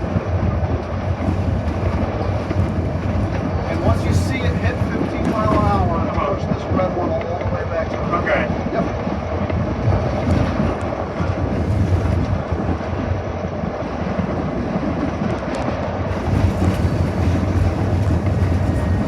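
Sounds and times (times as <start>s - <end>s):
locomotive engine drone: 0.0s - 19.0s
rolling rail noise: 0.0s - 19.0s
wind: 0.0s - 19.0s.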